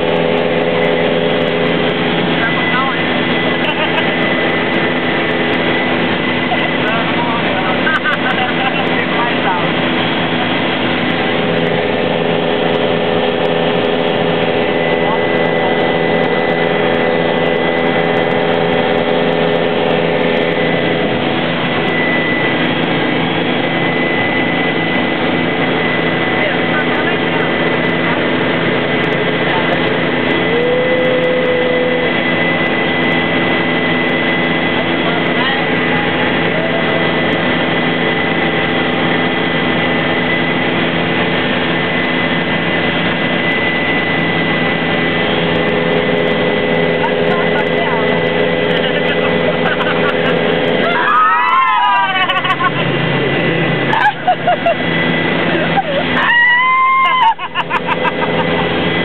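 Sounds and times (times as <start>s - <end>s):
helicopter cabin noise: 0.0s - 59.0s
high turbine whine: 0.0s - 59.0s.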